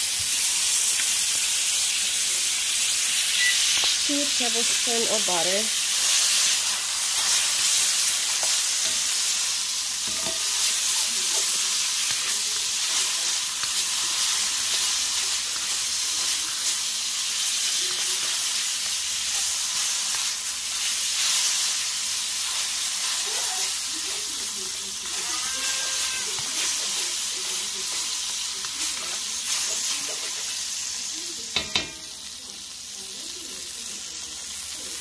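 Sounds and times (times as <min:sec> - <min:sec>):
butter sizzling: 0:00.0 - 0:35.0.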